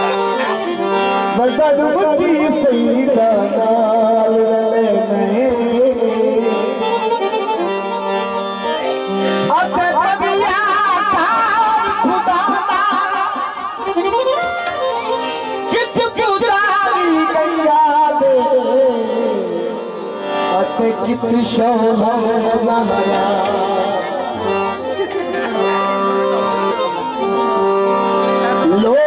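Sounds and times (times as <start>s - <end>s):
harmonium melody: 0.0s - 29.0s
tabla and dholak drumming: 0.2s - 7.8s, 9.3s - 29.0s.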